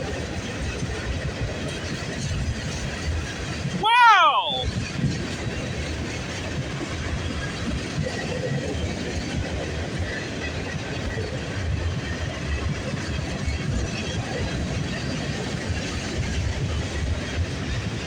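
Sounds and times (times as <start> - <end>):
freight train wheels rumbling: 0.0 - 4.0, 4.6 - 18.0.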